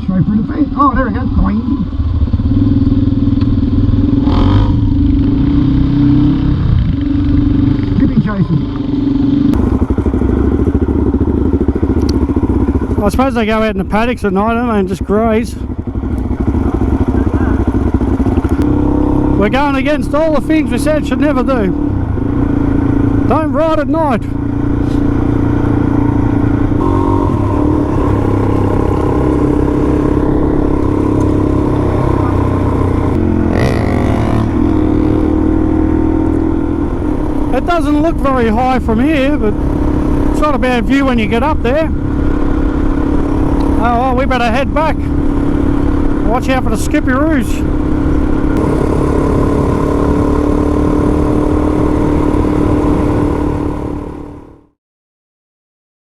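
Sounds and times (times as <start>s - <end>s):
dirt bike engine running: 0.0s - 54.7s.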